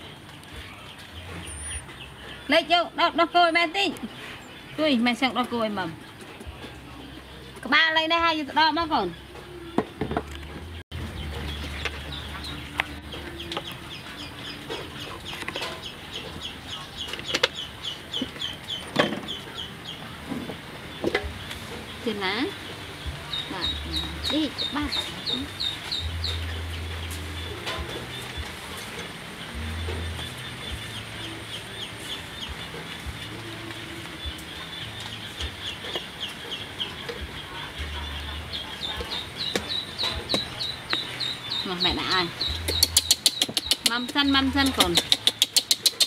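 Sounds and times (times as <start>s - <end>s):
bird chirping: 0.0s - 46.0s.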